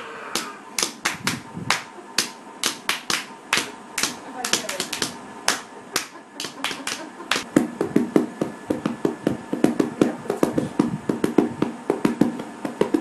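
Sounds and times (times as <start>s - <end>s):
quick rhythmic tapping: 0.4s - 13.0s.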